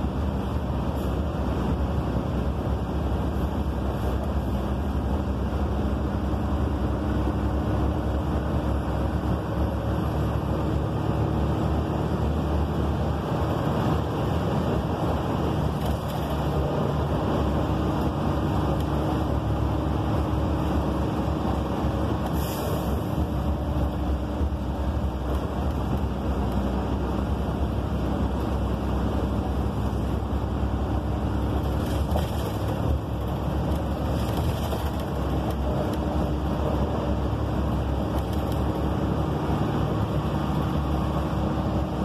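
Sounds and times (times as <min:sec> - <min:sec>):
bus diesel engine running: 0:00.0 - 0:42.0
road and tyre noise: 0:00.0 - 0:42.0.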